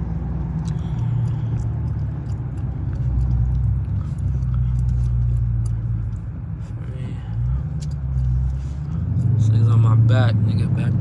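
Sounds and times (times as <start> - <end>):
car engine and exhaust droning: 0.0 - 11.0
tyre and road noise: 0.0 - 11.0.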